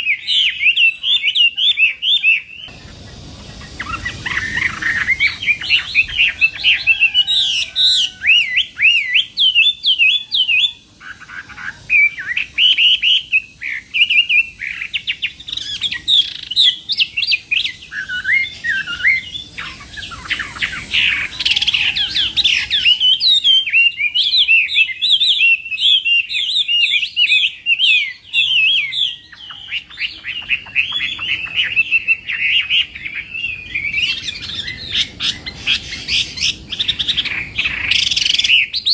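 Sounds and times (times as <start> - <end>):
bird singing whistled trills: 0.0 - 38.9.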